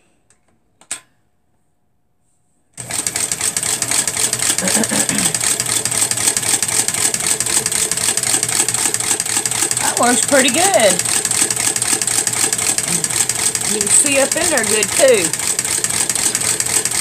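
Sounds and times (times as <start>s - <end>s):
electric sewing machine stitching: 2.8s - 17.0s.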